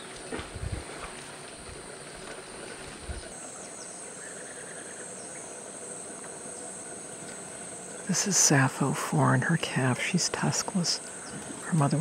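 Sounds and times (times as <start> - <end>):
insects chirping chorus: 0.0 - 12.0.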